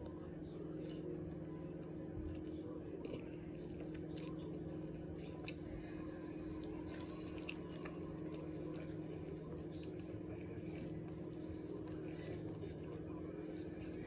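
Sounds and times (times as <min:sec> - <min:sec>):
person chewing bread: 0:00.0 - 0:14.0
steady low hum: 0:00.0 - 0:14.0.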